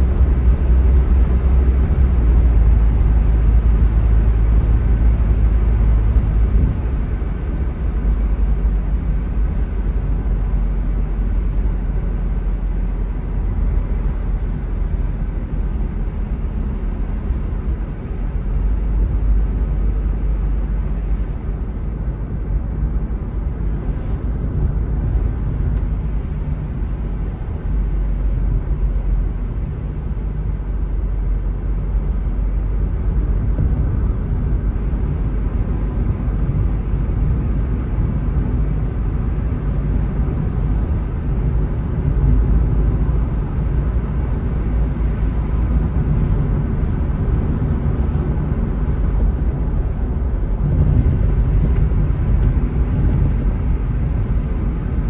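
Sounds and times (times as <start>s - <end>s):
car road and tyre noise: 0.0s - 55.0s.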